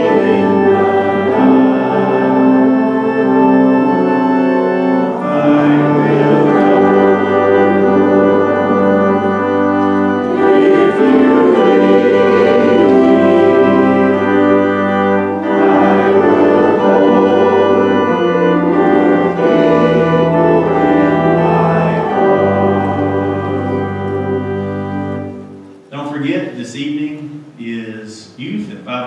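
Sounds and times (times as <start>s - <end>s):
organ playing a hymn: 0.0s - 29.0s.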